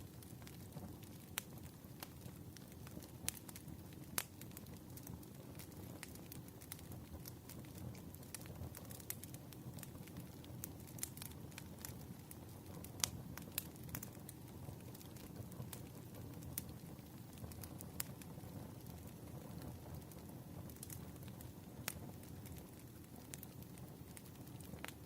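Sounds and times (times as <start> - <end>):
campfire crackling: 0.0 - 25.0
wood fire pops and snaps: 0.0 - 25.0.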